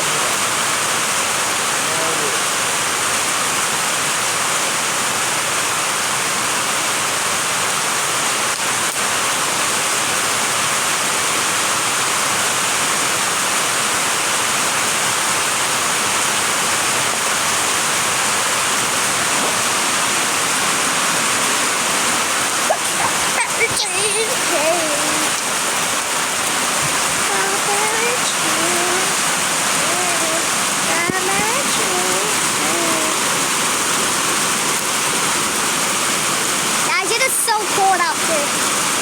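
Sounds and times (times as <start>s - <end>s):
falling water hissing: 0.0s - 39.0s.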